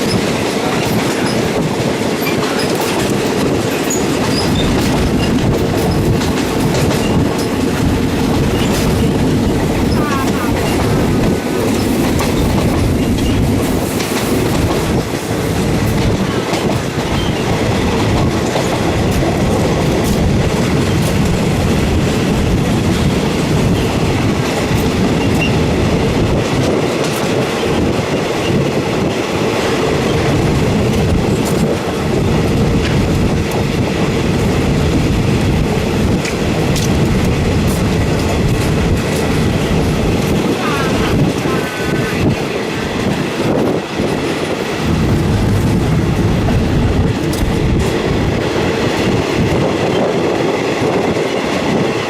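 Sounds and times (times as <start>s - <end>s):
train rumble and rattle: 0.0s - 52.0s
train wheels clicking over rail joints: 0.0s - 52.0s.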